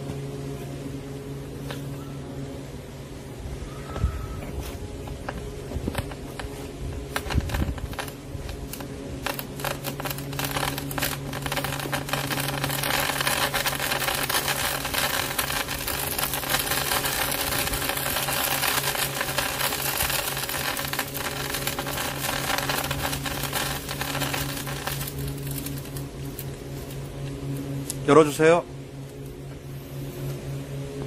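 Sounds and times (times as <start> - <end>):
steady low hum: 0.0 - 31.0
burning cables crackling: 4.3 - 30.5.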